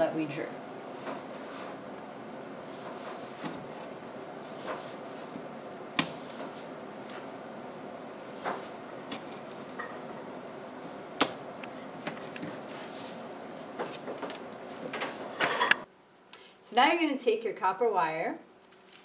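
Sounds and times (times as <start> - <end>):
steady background hiss: 0.0 - 18.8.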